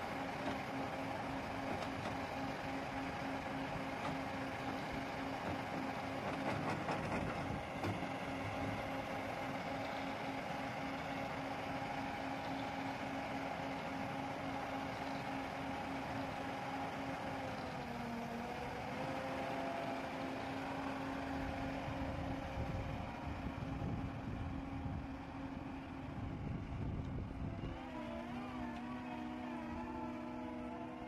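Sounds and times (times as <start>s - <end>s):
diesel engine running under load: 0.0s - 31.0s.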